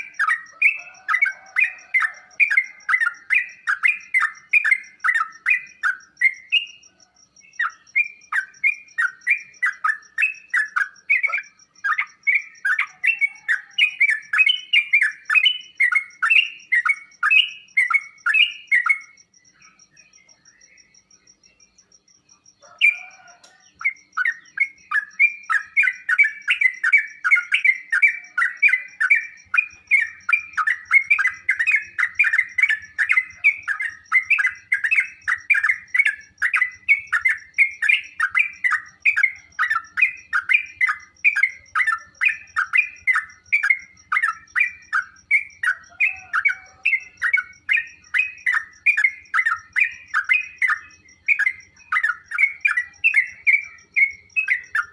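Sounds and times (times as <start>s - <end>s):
bird singing chattering song: 0.0s - 54.9s.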